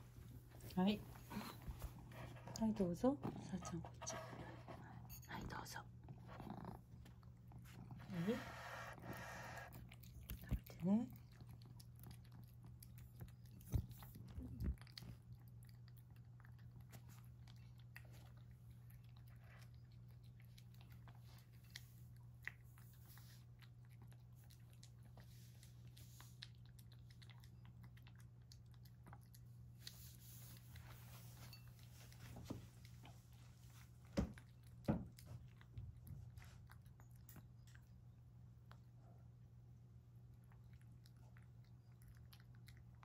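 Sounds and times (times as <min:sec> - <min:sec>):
cat chewing and lapping: 0:00.0 - 0:43.0.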